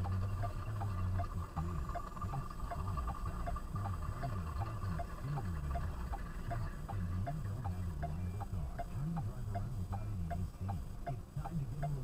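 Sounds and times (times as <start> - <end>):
car indicator relay ticking: 0.0 - 12.0
low rumble inside car: 0.0 - 12.0.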